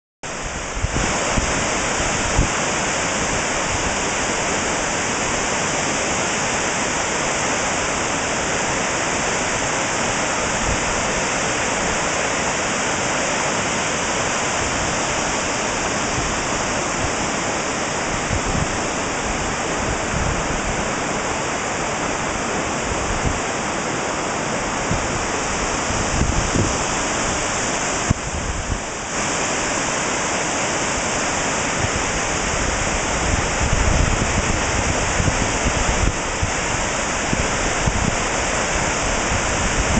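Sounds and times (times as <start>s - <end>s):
waterfall rushing: 0.3s - 39.9s.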